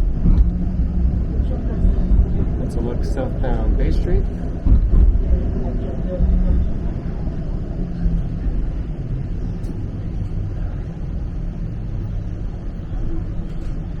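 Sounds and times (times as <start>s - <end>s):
streetcar wheels rumbling on rails: 0.0s - 14.0s.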